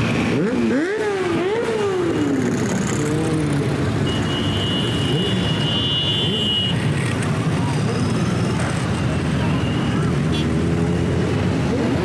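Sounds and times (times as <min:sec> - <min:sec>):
motorcycles riding past: 0:00.0 - 0:12.0.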